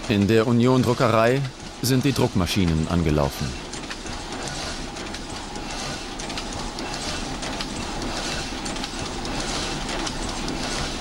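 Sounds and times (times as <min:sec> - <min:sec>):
printing presses clattering: 0:00.0 - 0:11.0.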